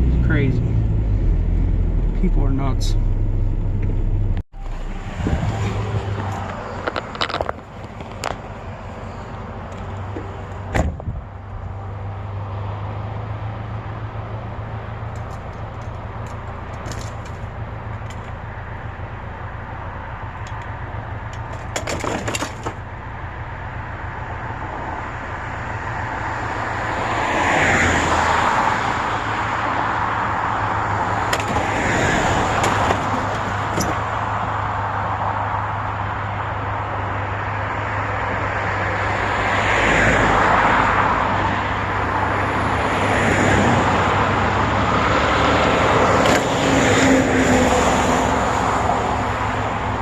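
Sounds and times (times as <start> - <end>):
truck engine and road noise: 0.0 - 50.0.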